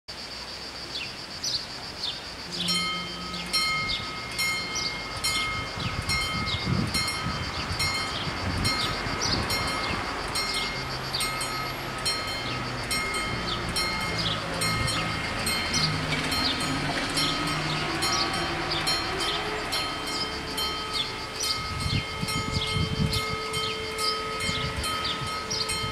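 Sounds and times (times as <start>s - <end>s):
level crossing warning bells: 2.4s - 25.9s.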